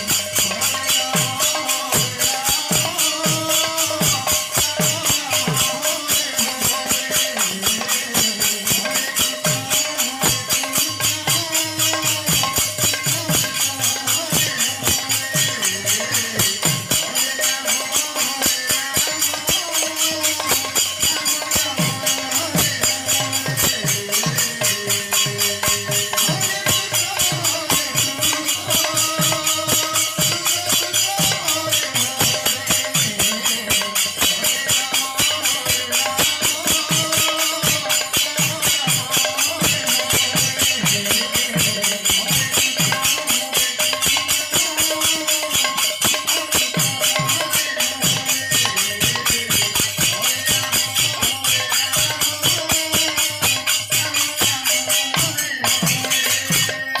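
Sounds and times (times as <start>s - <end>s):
hand cymbals clashing: 0.0s - 57.0s.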